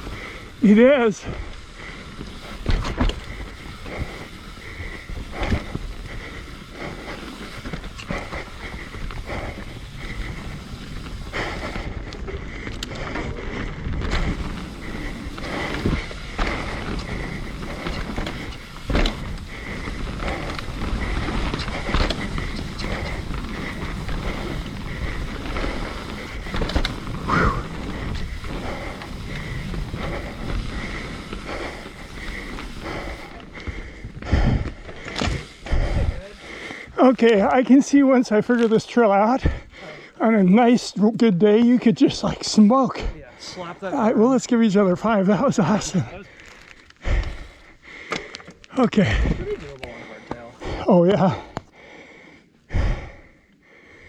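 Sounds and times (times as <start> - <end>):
bike rattling: 0.0 - 54.0
bike tyres on dirt: 0.0 - 54.0.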